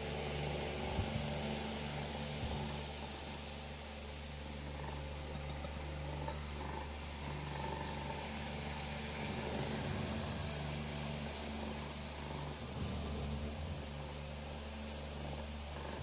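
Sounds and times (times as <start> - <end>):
cat purring: 0.0 - 16.0
constant background hum: 0.0 - 16.0.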